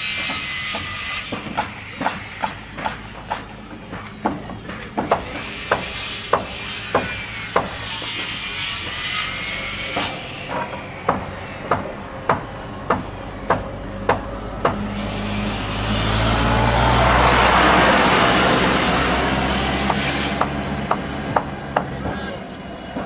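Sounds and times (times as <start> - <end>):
hammer blows: 0.0 - 23.0
loud machine noise: 0.0 - 23.0.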